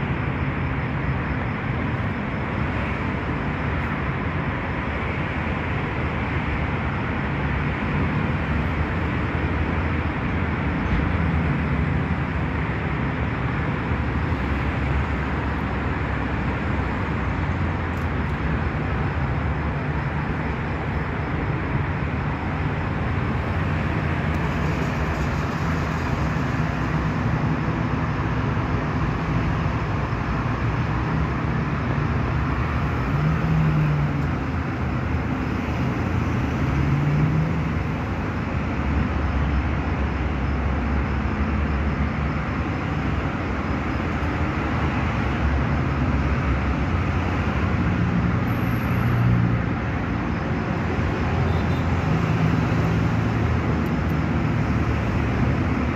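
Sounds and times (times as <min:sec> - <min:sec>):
traffic noise: 0:00.0 - 0:55.9.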